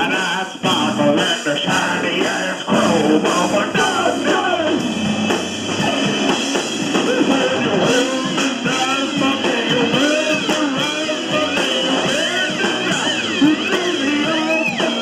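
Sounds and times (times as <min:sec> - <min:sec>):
drum kit: 0:00.0 - 0:15.0
guitar: 0:00.0 - 0:15.0.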